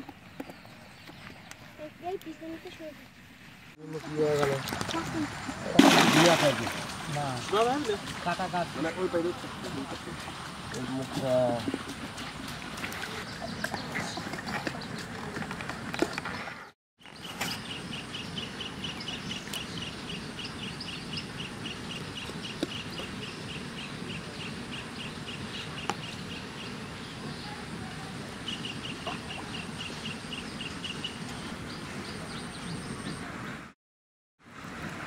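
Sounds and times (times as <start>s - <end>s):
outdoor background hiss: 0.0s - 13.3s, 17.0s - 33.5s.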